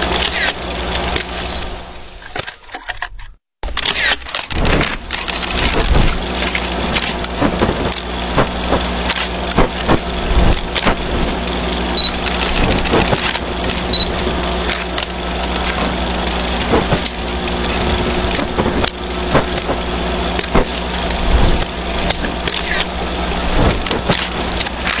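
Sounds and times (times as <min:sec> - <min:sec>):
film projector mechanical hum: 0:00.0 - 0:02.2, 0:03.7 - 0:25.0
crackles and clicks: 0:00.0 - 0:25.0.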